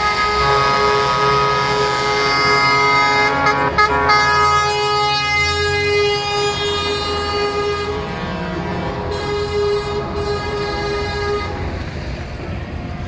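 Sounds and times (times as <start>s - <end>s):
truck air horn blasts: 0.0s - 11.8s
low engine rumble: 0.0s - 13.0s.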